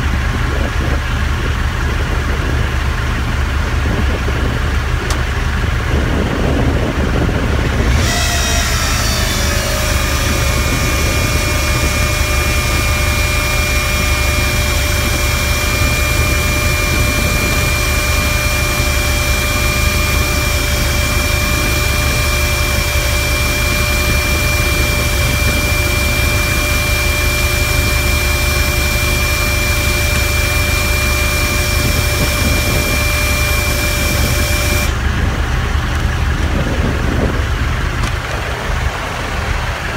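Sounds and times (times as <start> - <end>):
truck engine running: 0.0 - 39.9
whine: 0.0 - 39.9.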